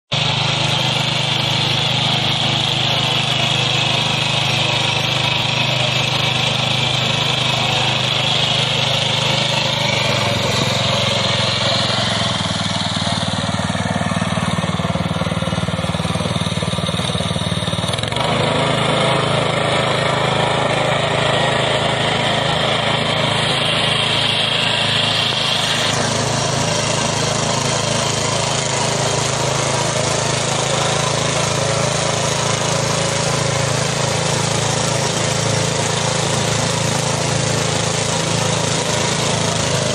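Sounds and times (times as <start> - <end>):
small gasoline engine running: 0.1 - 39.9.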